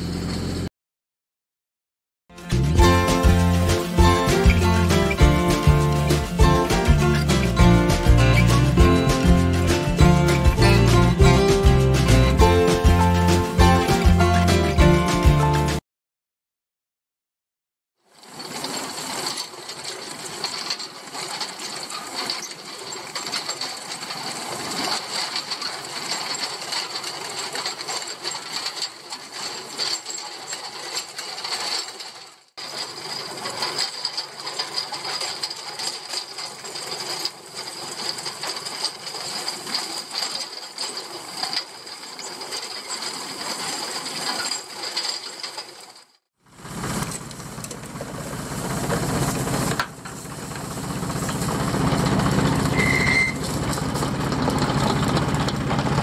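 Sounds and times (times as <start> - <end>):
hay tedder rattling and clattering: 0.0 - 0.6, 2.4 - 15.8, 18.1 - 56.0.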